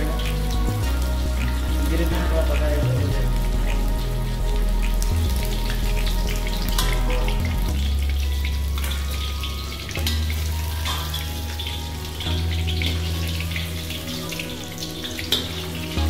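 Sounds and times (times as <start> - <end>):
background music with bass: 0.0 - 16.0
chicken deep-frying in oil: 0.0 - 16.0.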